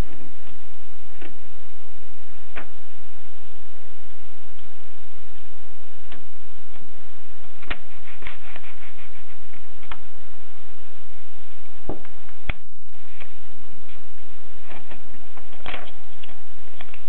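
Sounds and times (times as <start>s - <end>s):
steady loud hiss: 0.0s - 17.0s.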